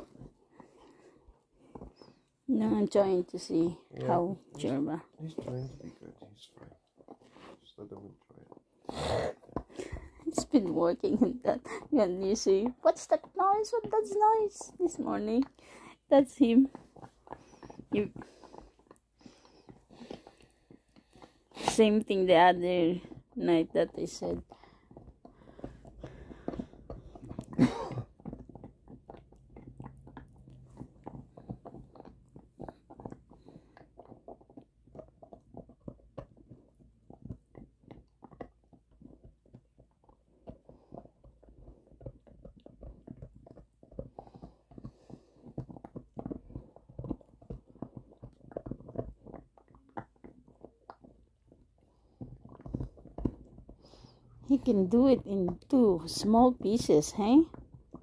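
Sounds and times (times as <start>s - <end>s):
dog crunching a bone: 0.0s - 58.0s.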